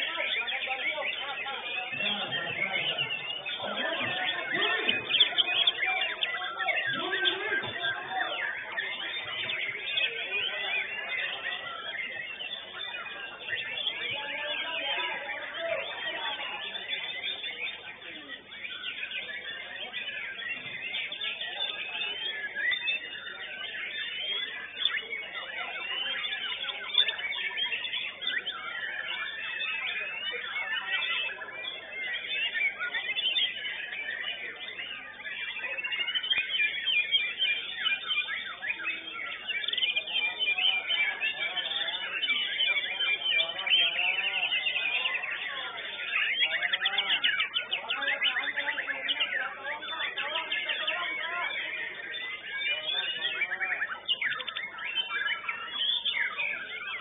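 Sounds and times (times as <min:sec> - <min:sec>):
bird singing whistles and chirps: 0:00.0 - 0:57.0
other caged birds singing: 0:00.0 - 0:57.0.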